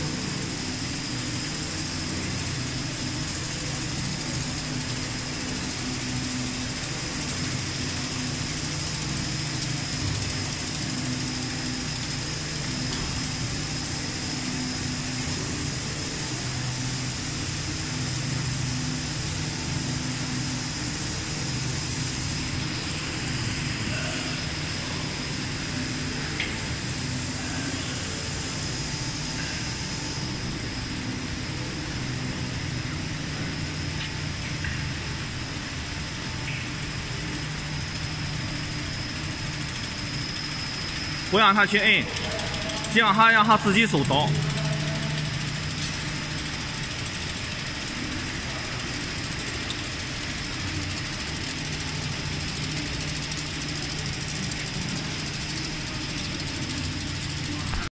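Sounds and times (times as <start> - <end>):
motors and conveyors humming: 0.0 - 57.9
thin high whine: 0.0 - 57.9.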